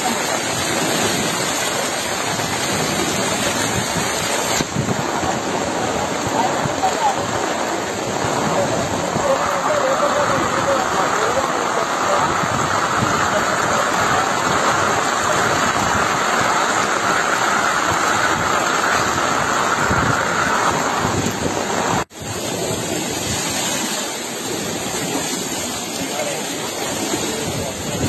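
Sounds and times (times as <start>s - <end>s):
heavy rain: 0.0s - 28.0s
rushing floodwater: 0.0s - 28.0s.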